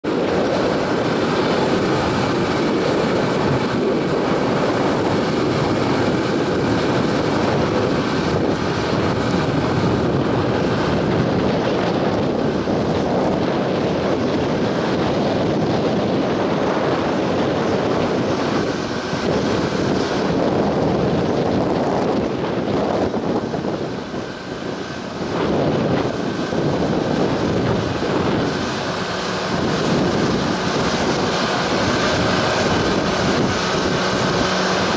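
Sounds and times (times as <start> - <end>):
diesel engine running: 0.0 - 34.9
wind buffeting microphone: 0.0 - 34.9.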